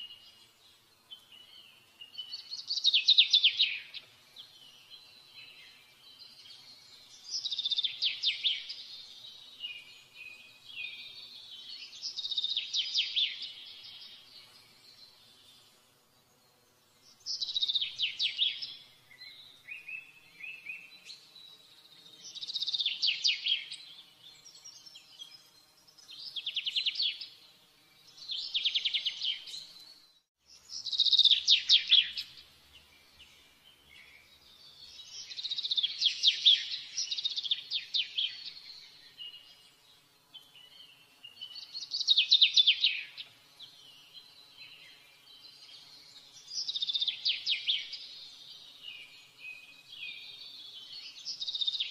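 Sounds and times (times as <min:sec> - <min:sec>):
songbird singing trilled phrases: 0:01.1 - 0:15.5, 0:17.1 - 0:21.4, 0:22.2 - 0:27.4, 0:28.1 - 0:39.6, 0:40.3 - 0:51.9.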